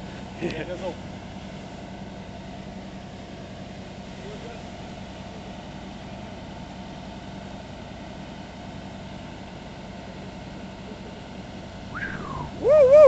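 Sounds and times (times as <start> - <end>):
fire engine idling: 0.0 - 13.0.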